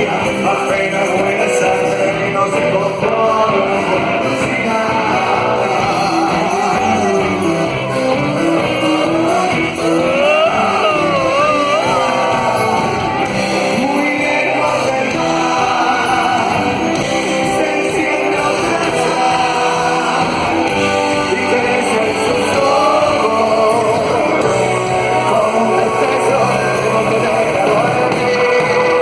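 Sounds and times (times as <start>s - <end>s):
person singing: 0.0s - 29.0s
rock band playing live: 0.0s - 29.0s.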